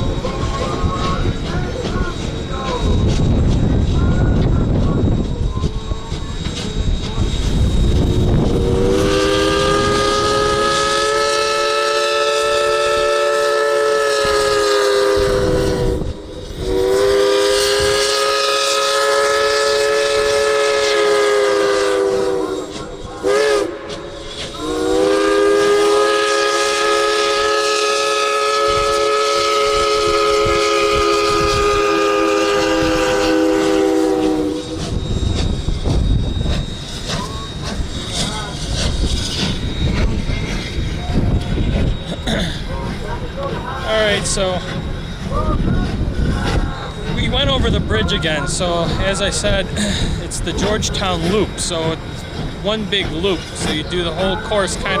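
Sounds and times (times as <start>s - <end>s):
steam locomotive chime whistle: 0.0s - 55.0s
train rumbling on rails: 0.0s - 55.0s.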